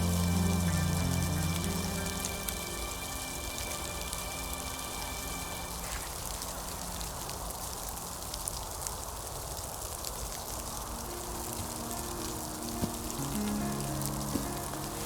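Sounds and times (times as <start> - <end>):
background music tones: 0.0 - 8.2, 10.7 - 15.0
rain falling steadily: 0.0 - 15.0.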